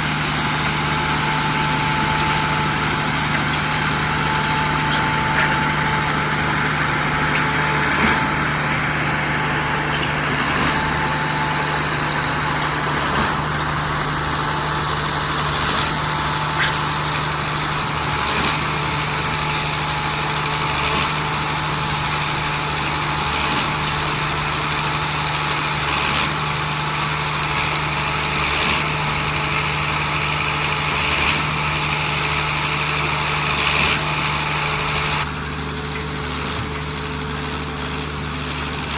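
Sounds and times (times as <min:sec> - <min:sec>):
concrete pump engine drone: 0:00.0 - 0:38.9.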